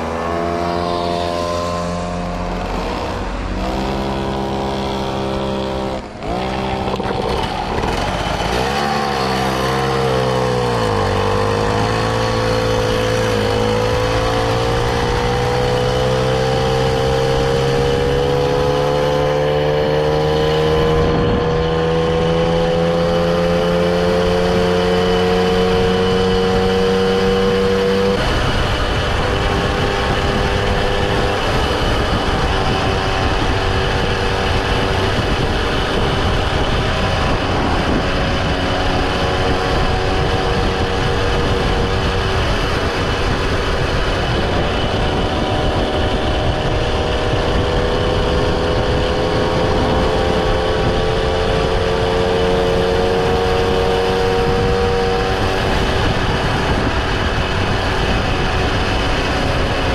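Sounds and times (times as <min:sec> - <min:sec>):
moped engine running: 0:00.0 - 0:59.9.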